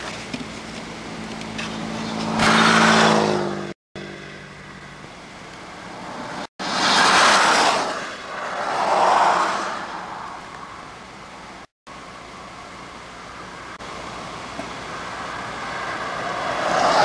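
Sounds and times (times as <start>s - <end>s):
vehicles passing on highway: 0.0s - 17.0s.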